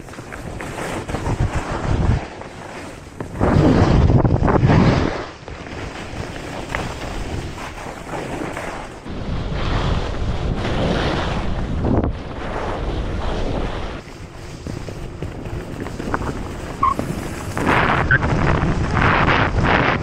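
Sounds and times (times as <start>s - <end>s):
skis scraping over snow: 0.0s - 20.0s
wind rushing over microphone: 0.0s - 20.0s.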